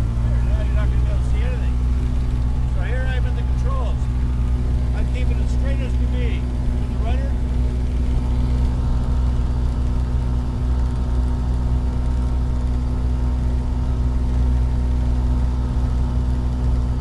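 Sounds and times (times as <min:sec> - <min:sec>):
aircraft engine and propeller: 0:00.0 - 0:17.0.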